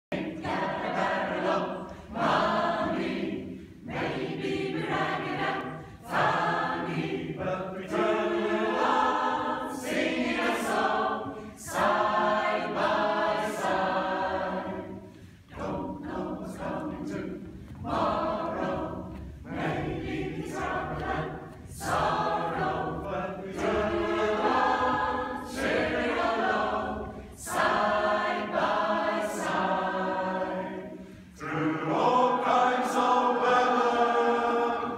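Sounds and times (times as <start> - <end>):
mixed choir singing unaccompanied: 0.1 - 34.9.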